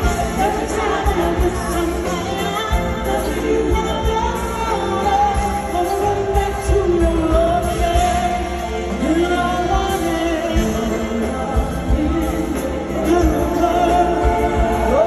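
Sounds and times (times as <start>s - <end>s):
band with drums and bass: 0.0s - 15.0s
woman singing a slow ballad: 0.0s - 15.0s.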